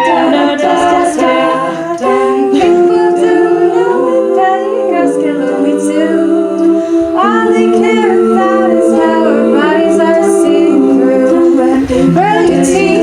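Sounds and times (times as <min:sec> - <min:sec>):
a cappella group singing harmony: 0:00.0 - 0:13.0.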